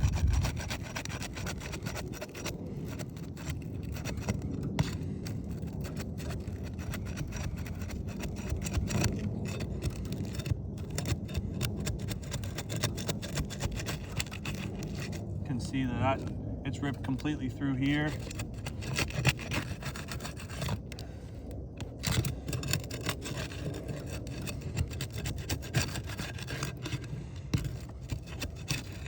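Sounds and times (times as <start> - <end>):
flat bar scraping under shingles: 0.0 - 29.0.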